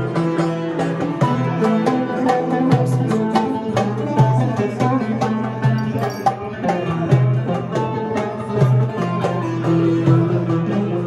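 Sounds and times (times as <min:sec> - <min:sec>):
long-necked lutes playing folk tune: 0:00.0 - 0:11.0.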